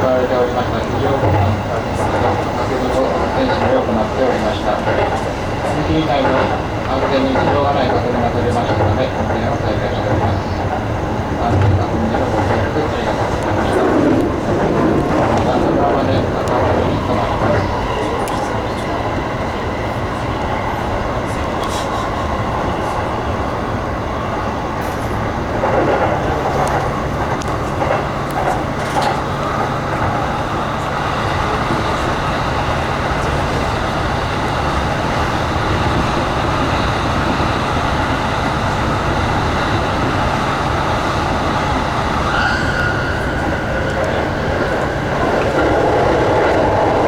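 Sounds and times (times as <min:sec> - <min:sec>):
train wheels rumbling: 0:00.0 - 0:47.0
wheels clacking over rail joints: 0:00.0 - 0:47.0.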